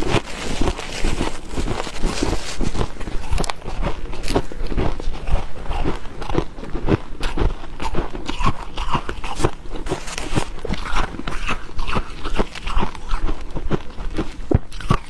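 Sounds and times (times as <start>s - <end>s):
squeaky crunching of frost: 0.0s - 6.4s, 8.2s - 15.0s.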